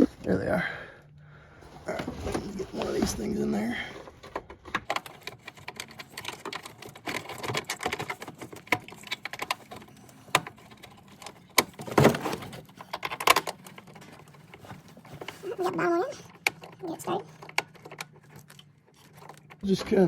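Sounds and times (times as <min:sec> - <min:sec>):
clicks and scrapes of metal and plastic: 0:01.9 - 0:20.0.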